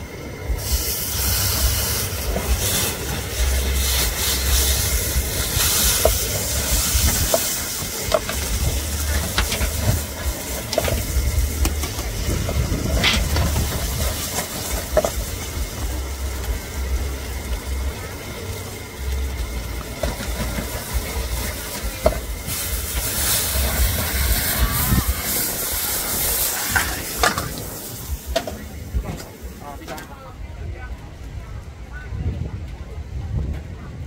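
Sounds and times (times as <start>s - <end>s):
steak sizzling in a pan: 0.6s - 28.6s.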